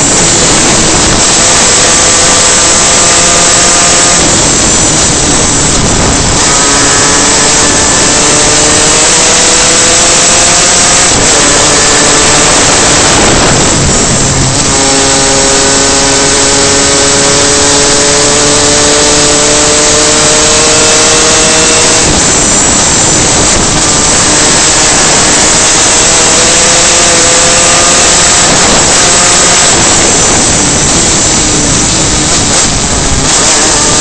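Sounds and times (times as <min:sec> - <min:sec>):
kart engine revving: 0:00.0 - 0:34.0
wind and road noise: 0:00.0 - 0:34.0.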